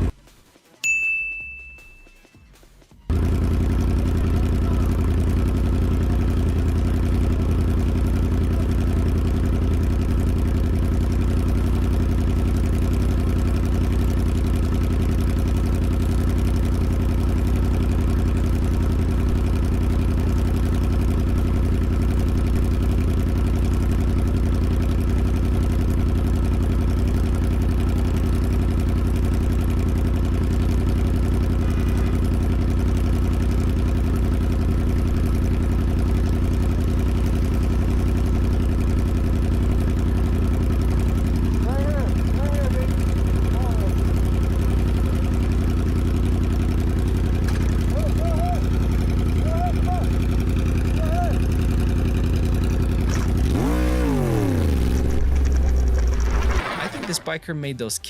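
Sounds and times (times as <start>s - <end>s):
motorcycle engine running: 0.0s - 57.3s.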